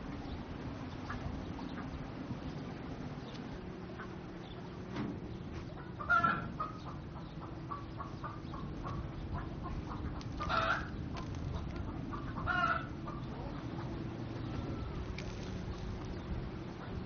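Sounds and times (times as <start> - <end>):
chickens clucking: 0.8 - 2.0, 3.2 - 17.0.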